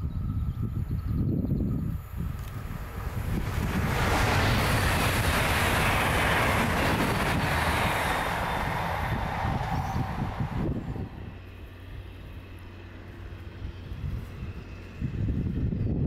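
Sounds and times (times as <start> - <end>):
train wheels rushing on rail: 0.0 - 16.0.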